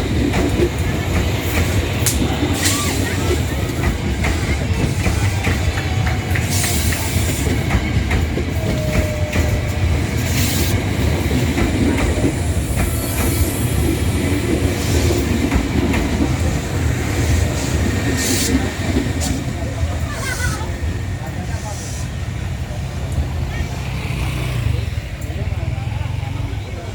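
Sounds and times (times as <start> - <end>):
train rumbling on rails: 0.0 - 26.9.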